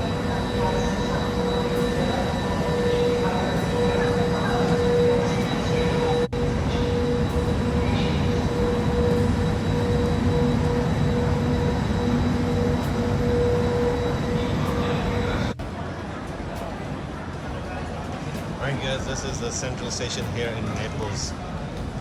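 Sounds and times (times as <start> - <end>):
steady high whine: 0.0 - 22.0
train rumbling: 0.0 - 22.0.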